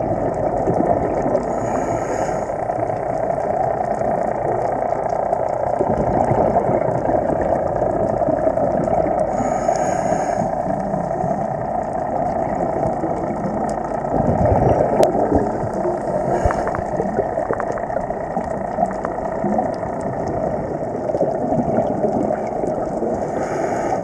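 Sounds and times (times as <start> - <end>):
muffled underwater rumble: 0.0 - 24.0
scuba exhalation bubbles: 0.0 - 24.0.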